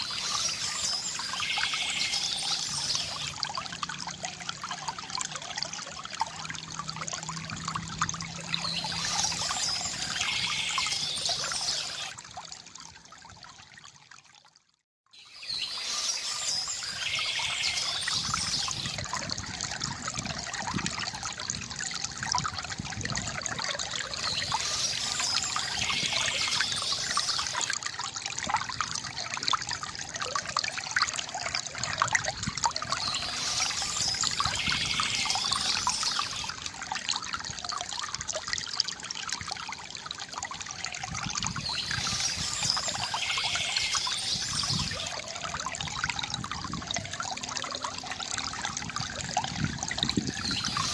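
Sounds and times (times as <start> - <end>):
fountain water pouring into basin: 0.0 - 50.9.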